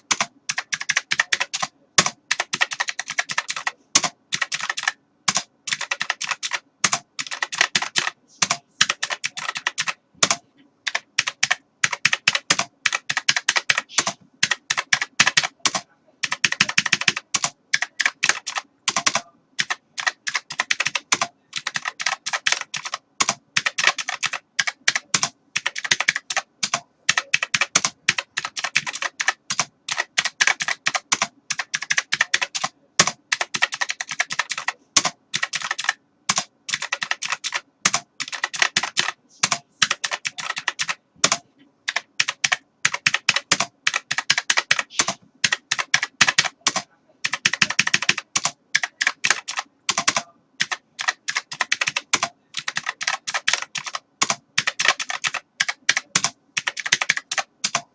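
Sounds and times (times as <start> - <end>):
typing on computer keyboard: 0.0 - 57.9.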